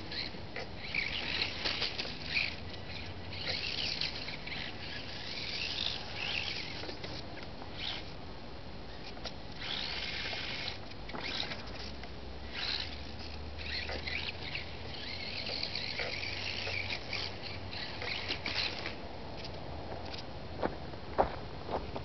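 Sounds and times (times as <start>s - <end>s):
rc car electric motor whine: 0.0s - 8.2s, 8.9s - 19.5s.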